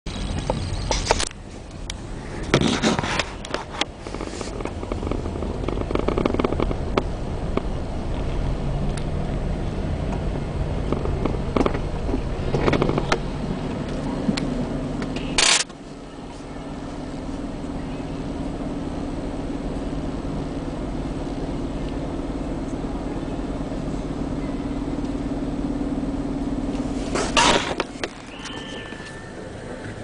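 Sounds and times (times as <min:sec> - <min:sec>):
car engine low rumble: 0:00.0 - 0:30.0.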